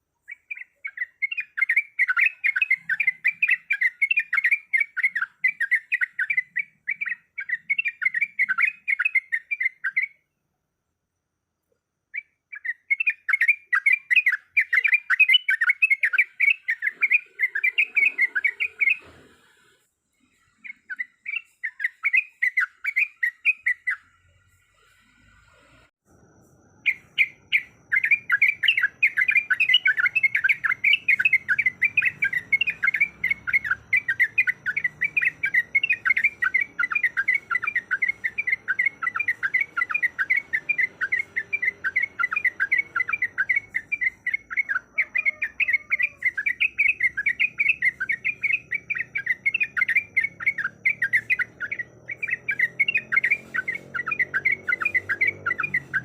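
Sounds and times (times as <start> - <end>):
bird singing chattering notes: 0.2 - 10.2, 12.1 - 19.0, 20.5 - 24.1, 26.8 - 56.0.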